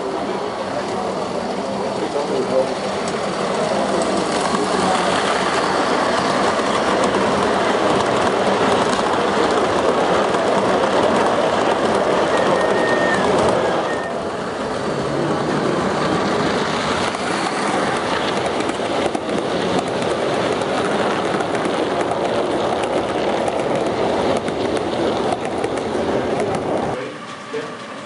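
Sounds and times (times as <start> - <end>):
model train wheels rumbling on rails: 0.0 - 28.0.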